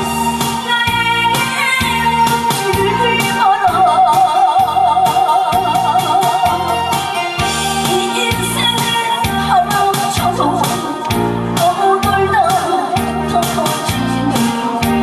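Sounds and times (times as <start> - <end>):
amplified backing music with beat: 0.0 - 15.0
woman singing into microphone: 0.0 - 15.0.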